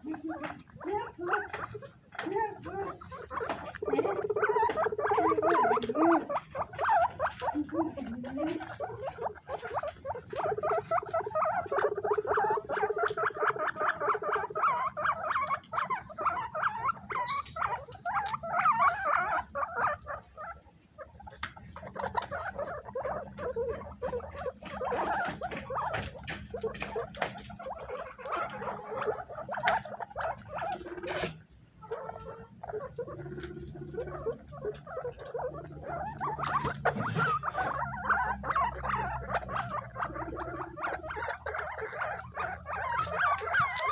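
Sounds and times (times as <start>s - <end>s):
guinea pigs squeaking: 0.0s - 43.9s.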